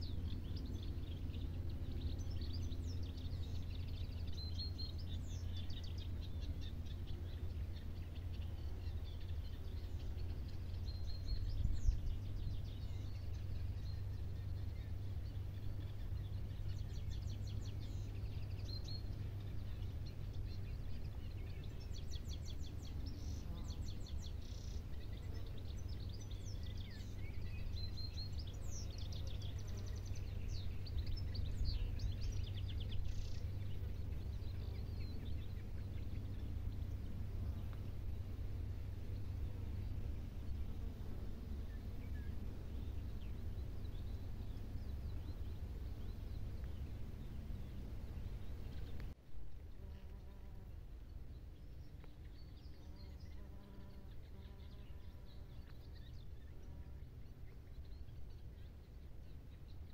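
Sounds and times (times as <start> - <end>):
low outdoor background rumble: 0.0 - 59.9
small birds chirping and trilling: 0.0 - 59.9.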